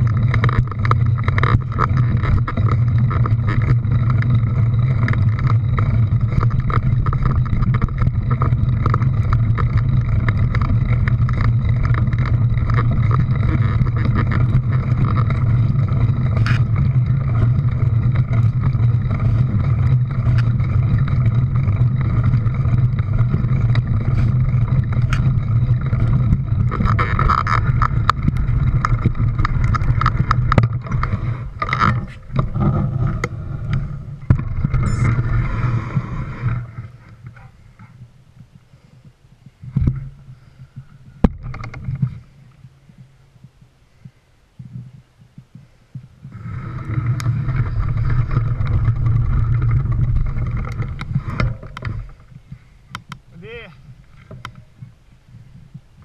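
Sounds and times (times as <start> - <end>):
engine running: 0.0 - 43.6, 45.8 - 56.0.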